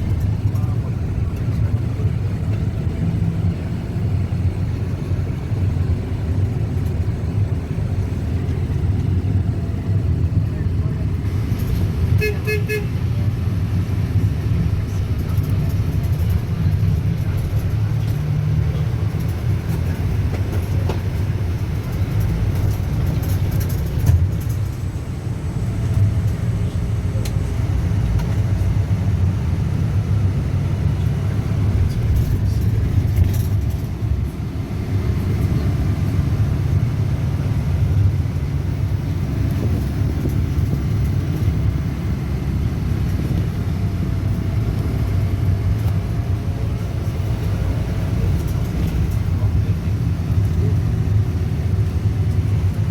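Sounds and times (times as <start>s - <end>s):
boat engine and wind rumble: 0.0s - 52.9s.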